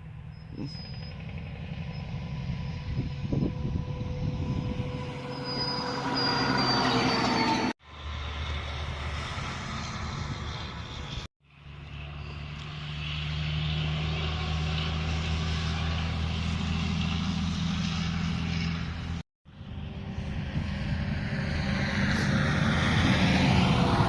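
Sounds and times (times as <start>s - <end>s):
low engine sound: 0.0s - 6.5s, 7.2s - 24.0s
heavy truck engine and tyres: 0.0s - 24.0s.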